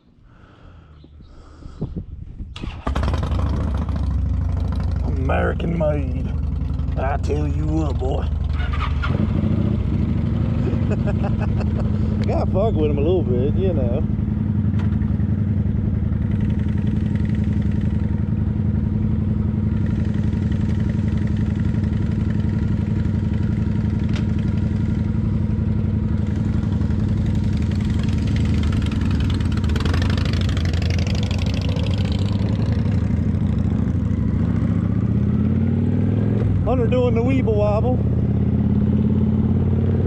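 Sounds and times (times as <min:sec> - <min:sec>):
motorcycle engine running: 0:02.7 - 0:40.0.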